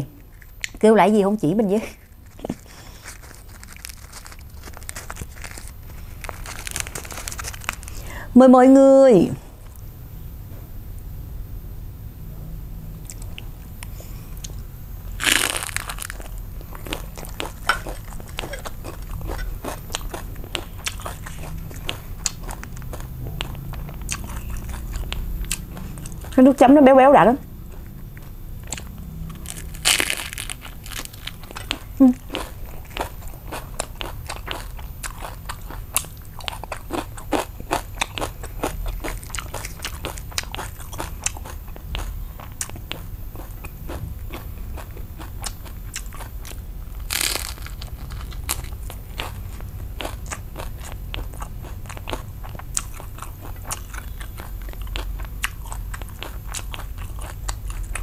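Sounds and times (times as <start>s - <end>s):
wet chewing with crunches: 1.8s - 8.1s, 13.0s - 26.8s, 27.4s - 58.0s
loud crunchy bite: 2.0s - 8.1s, 13.0s - 26.4s, 27.8s - 58.0s.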